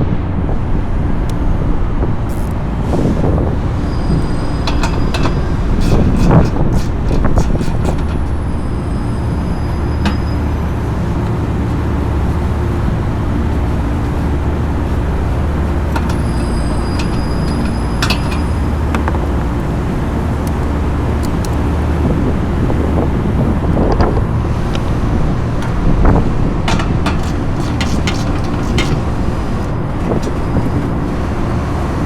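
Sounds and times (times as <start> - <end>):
machinery humming: 0.0 - 32.0.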